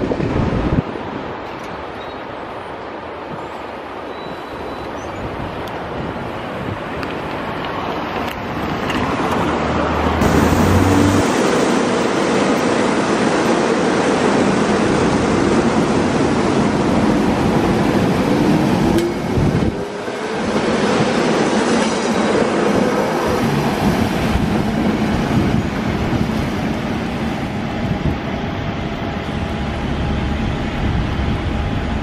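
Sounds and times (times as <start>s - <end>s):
train wheels rushing on rail: 0.0s - 32.0s.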